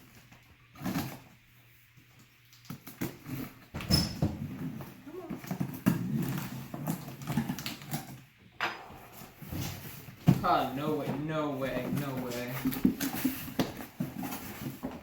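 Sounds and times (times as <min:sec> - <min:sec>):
cardboard and packaging rustling: 0:00.0 - 0:15.0.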